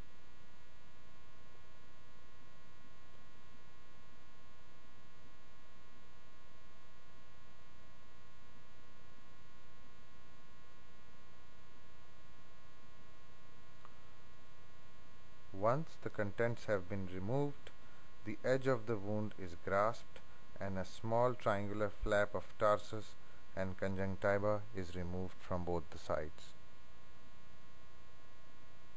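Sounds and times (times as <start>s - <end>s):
buzzy electrical mains hum: 0.0s - 28.9s.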